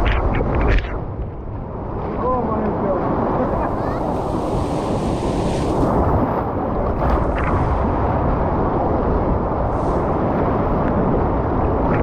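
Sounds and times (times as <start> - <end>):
surf washing around kayak hull: 0.0 - 12.0
wind buffeting microphone: 0.0 - 12.0.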